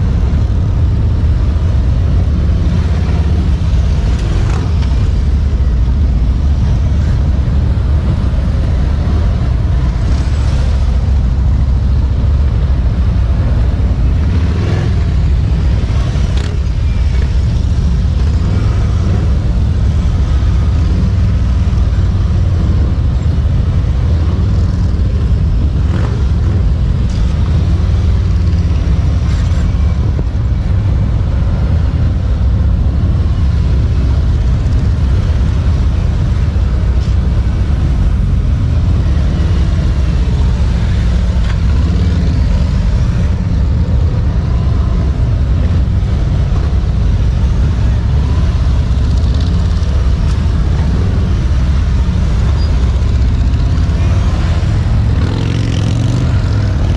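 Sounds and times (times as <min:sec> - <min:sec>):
motorcycle engines rumbling: 0:00.0 - 0:56.9.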